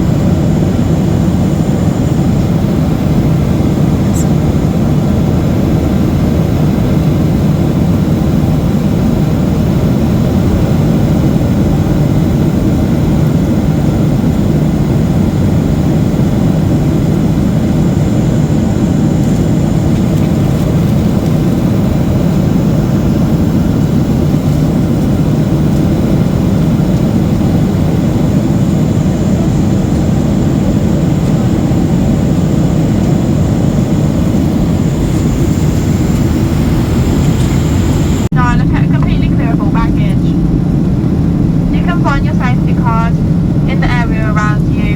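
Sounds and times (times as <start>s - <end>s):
airliner cabin roar: 0.0s - 44.9s.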